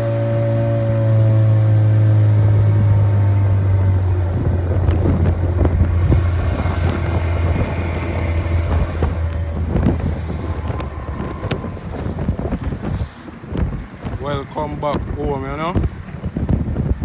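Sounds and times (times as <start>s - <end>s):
boat motor running: 0.0s - 17.0s
water splashing against hull: 0.0s - 17.0s
wind on microphone: 0.0s - 17.0s.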